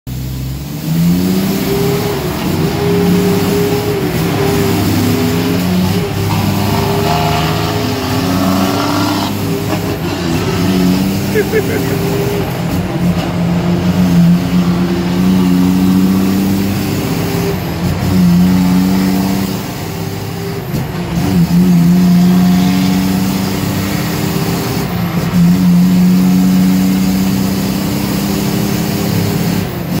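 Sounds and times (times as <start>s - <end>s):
truck diesel engine under load: 0.1s - 30.0s.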